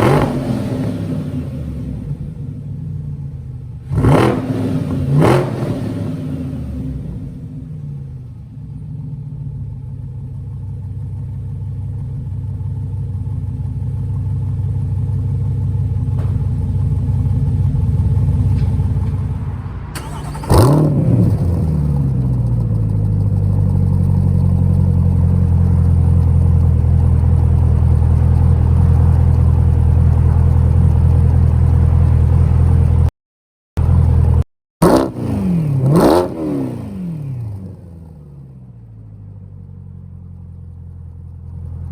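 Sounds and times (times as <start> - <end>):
car engine idling and revving: 0.0 - 33.1, 33.8 - 41.9.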